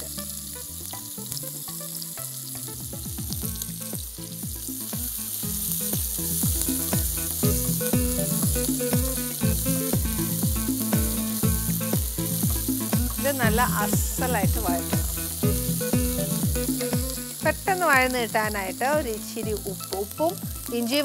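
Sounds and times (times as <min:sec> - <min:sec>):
background music with steady beat: 0:00.0 - 0:21.0
onions sizzling in hot oil: 0:00.0 - 0:21.0.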